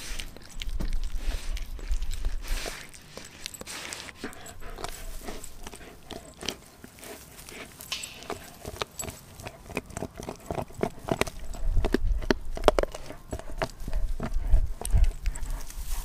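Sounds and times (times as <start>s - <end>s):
dog gnawing bone: 0.0s - 16.0s.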